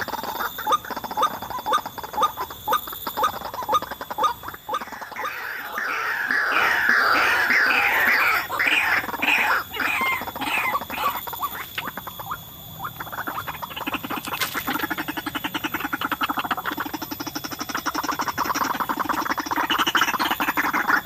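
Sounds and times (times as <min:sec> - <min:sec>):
fast pulsed bird calls: 0:00.0 - 0:21.0
waterhen harsh calls: 0:00.0 - 0:21.0.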